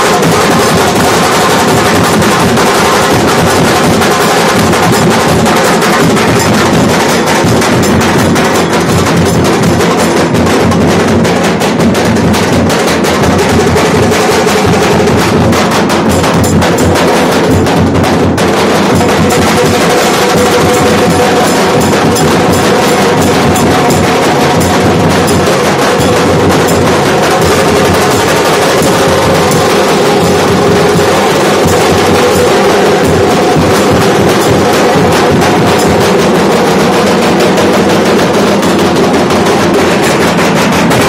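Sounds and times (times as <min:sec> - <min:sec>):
dhol drums beaten fast: 0:00.0 - 0:41.0.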